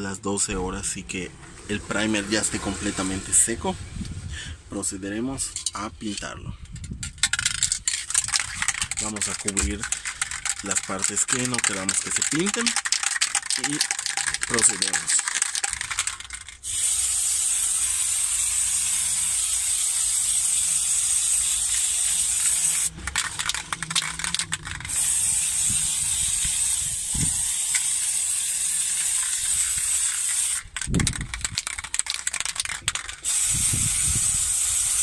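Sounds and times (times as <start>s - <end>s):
aerosol spray paint hissing: 1.9s - 3.6s, 7.5s - 35.0s
spray can clicking and rattling: 5.5s - 35.0s.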